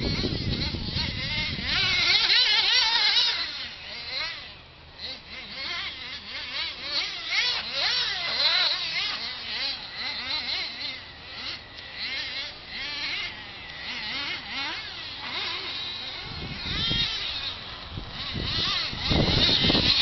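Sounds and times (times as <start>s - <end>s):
rc truck engines buzzing: 0.0s - 20.0s.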